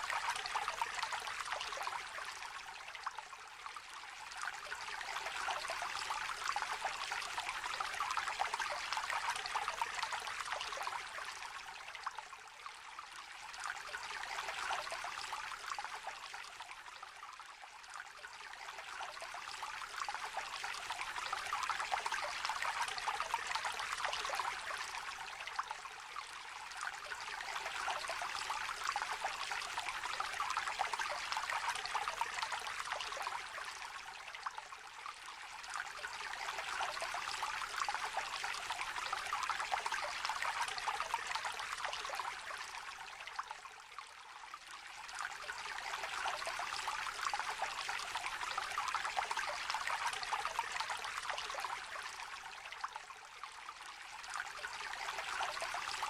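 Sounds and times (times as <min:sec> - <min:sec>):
shallow stream trickling: 0:00.0 - 0:56.0.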